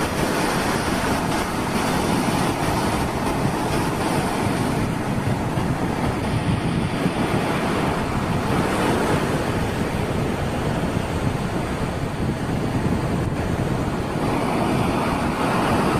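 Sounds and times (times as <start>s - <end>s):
surf breaking on beach: 0.0s - 15.9s
wind buffeting microphone: 0.0s - 15.9s.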